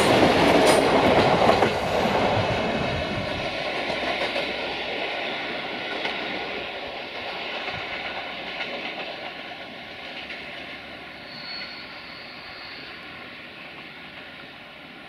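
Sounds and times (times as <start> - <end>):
diesel locomotive engine droning: 0.0 - 15.0
train coaches rolling over rails: 0.0 - 15.0.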